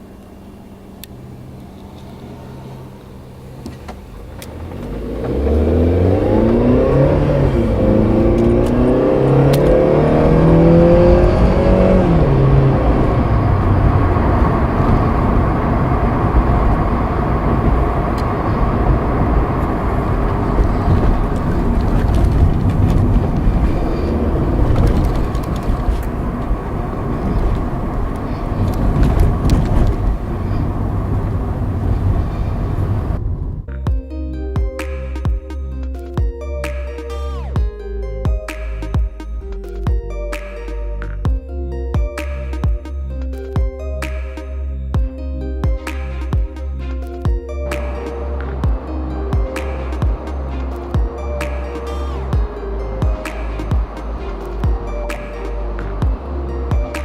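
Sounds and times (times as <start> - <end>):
car engine accelerating: 0.0 - 57.0
tyre and road noise: 0.0 - 57.0.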